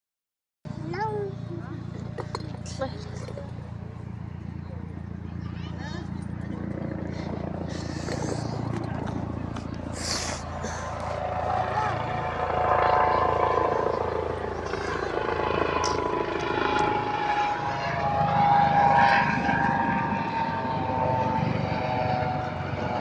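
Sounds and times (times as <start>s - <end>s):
steady engine drone: 0.7s - 23.0s.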